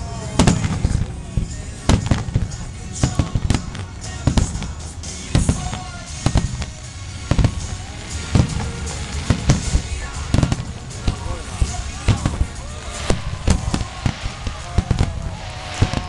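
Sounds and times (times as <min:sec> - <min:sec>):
firework booms and cracks: 0:00.0 - 0:16.0
music over loudspeakers: 0:00.0 - 0:16.0.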